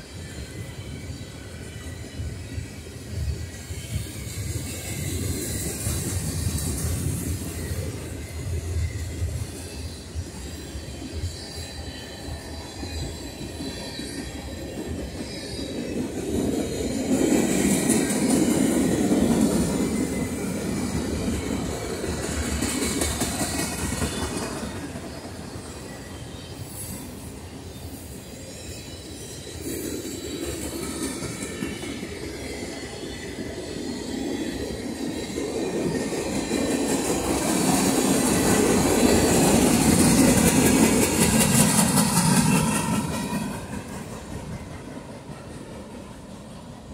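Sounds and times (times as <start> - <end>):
train wheels clacking on rails: 0.0 - 46.9.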